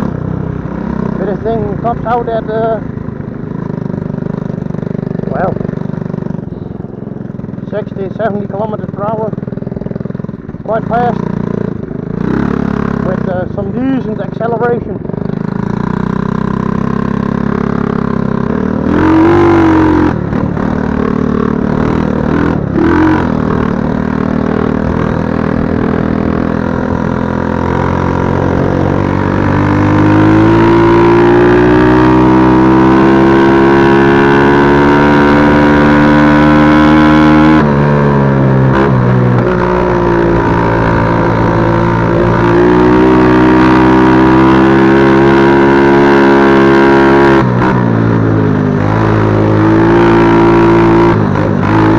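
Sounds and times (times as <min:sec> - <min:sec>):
quad bike engine accelerating: 0:00.0 - 0:51.9.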